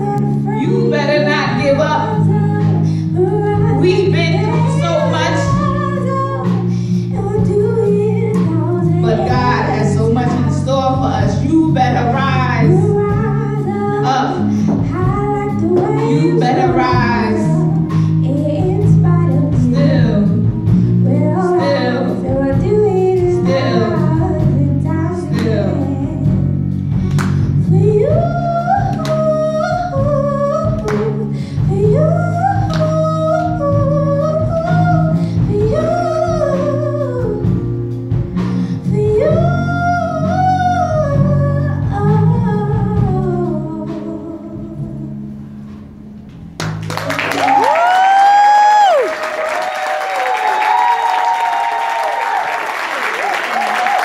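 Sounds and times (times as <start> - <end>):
woman singing: 0.0 - 45.4
live band with drums and bass: 0.0 - 54.0.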